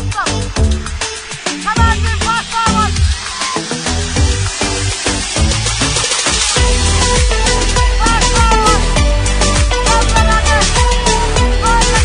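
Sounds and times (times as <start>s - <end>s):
background music with steady beat: 0.0s - 12.0s
deep bass line: 0.0s - 12.0s.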